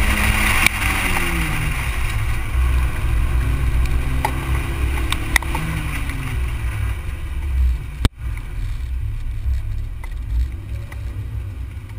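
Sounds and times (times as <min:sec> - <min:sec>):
car engine: 0:00.0 - 0:11.9
wind rush: 0:00.0 - 0:11.9.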